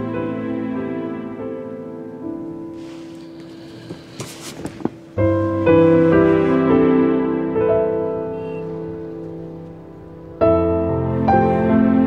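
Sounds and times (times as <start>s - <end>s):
soft piano score: 0.0s - 12.0s.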